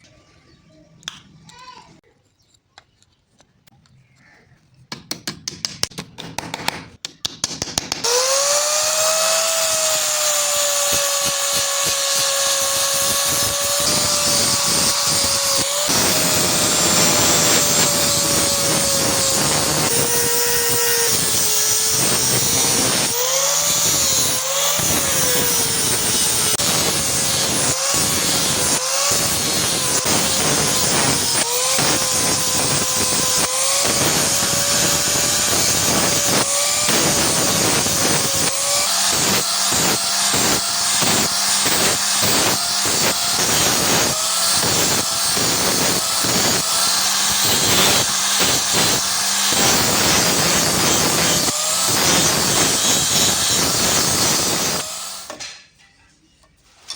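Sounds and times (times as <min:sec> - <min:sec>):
electric power tool whining: 0:08.0 - 0:55.4.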